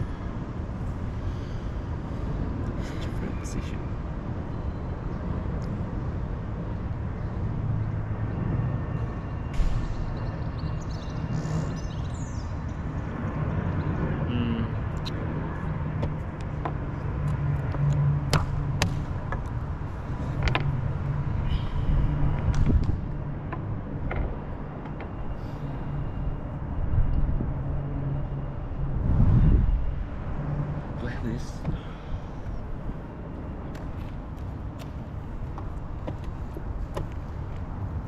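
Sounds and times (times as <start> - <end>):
steady low city rumble: 0.0 - 38.0.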